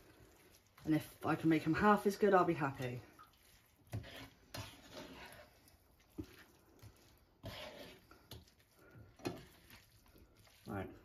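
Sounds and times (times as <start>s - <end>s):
noodles rustling in a pan: 0.0s - 11.0s.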